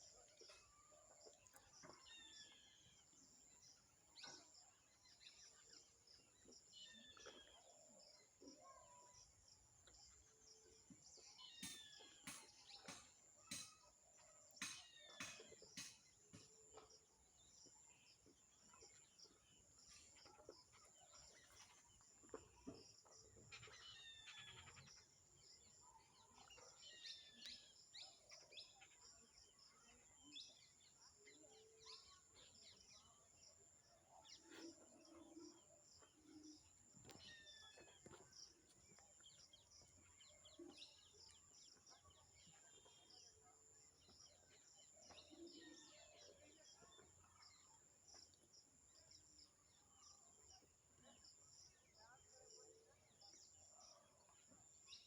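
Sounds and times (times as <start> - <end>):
faint bird chirping: 0.0 - 55.0.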